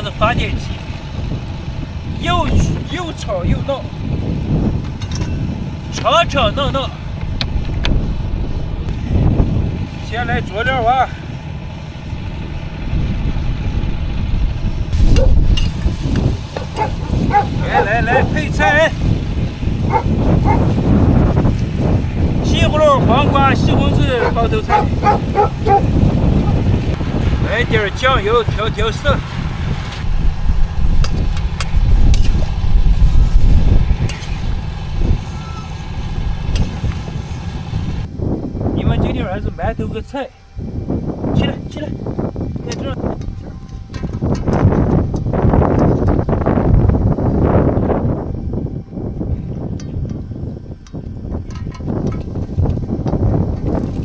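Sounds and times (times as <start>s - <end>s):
generator running: 0.0s - 54.0s
wind buffeting microphone: 0.0s - 54.0s.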